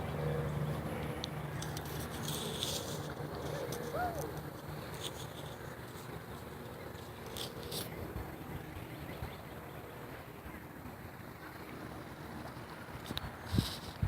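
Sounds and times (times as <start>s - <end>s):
outdoor background rumble and hiss: 0.0s - 14.0s.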